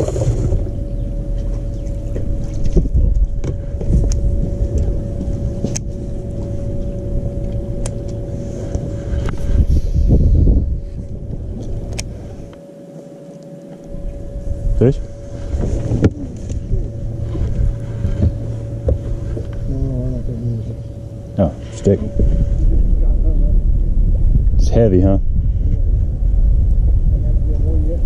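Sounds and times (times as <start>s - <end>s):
wind rumbling on microphone: 0.0s - 12.6s, 13.8s - 28.0s
steady hum: 0.0s - 28.0s.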